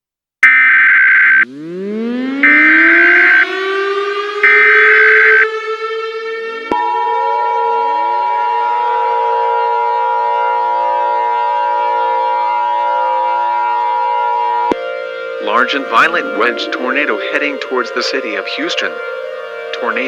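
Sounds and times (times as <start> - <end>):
warning siren winding up: 0.4 - 20.0.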